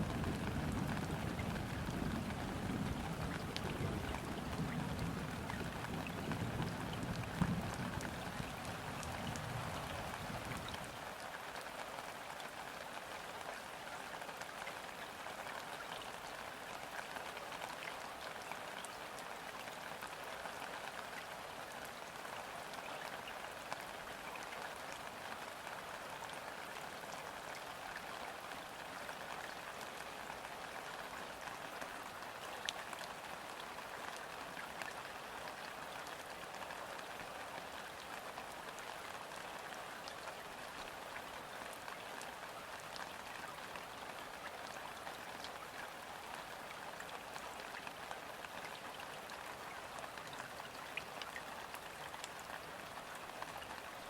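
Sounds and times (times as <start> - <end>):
rain falling on river water: 0.0 - 54.0.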